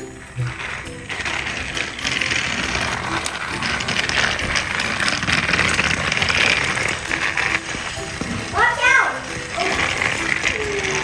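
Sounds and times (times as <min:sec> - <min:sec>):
plastic toys clattering on track: 0:00.0 - 0:11.0.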